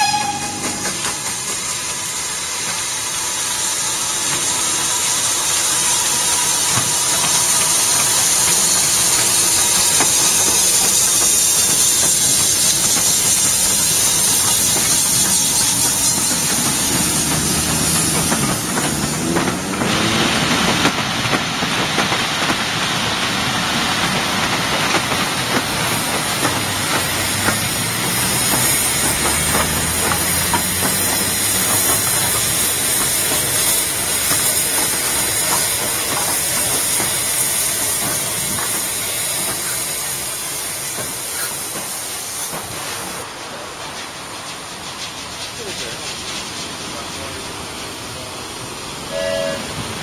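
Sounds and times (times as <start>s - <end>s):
locomotive steam hissing: 0.0s - 50.0s
train rumbling on rails: 0.0s - 50.0s.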